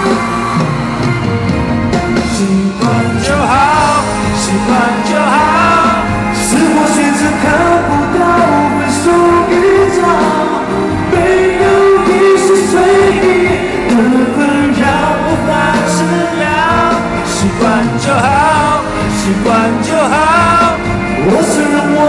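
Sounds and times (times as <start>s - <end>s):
band playing pop music: 0.0s - 22.0s
man singing: 2.2s - 22.0s.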